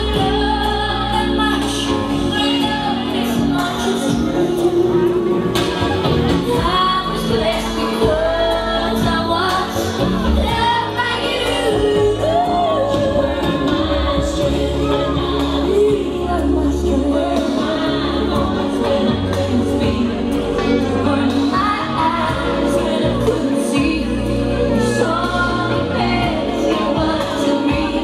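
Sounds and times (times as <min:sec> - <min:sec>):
song with sung vocals: 0:00.0 - 0:28.0
steady bass line: 0:00.0 - 0:28.0.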